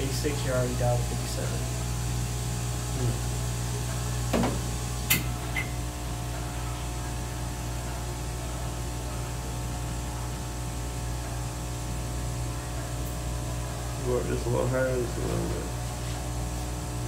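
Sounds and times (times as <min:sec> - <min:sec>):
machine humming with air hiss: 0:00.0 - 0:17.0.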